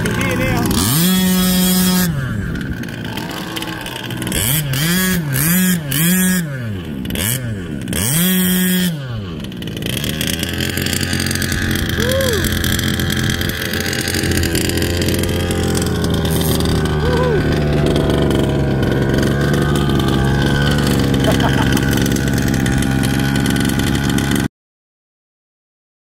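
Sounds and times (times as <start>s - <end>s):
two-stroke engine revving and idling: 0.0s - 24.5s.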